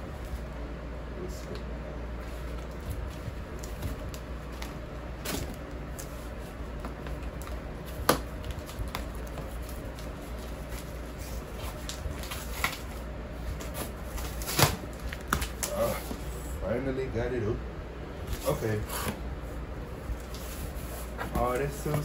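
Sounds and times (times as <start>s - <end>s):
room fan humming: 0.0s - 22.0s.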